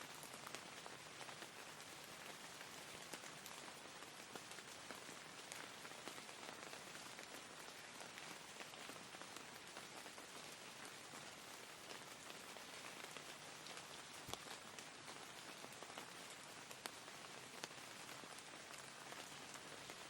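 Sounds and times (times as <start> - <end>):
raindrops ticking on a surface: 0.0 - 20.0
soft rain falling: 0.0 - 20.0.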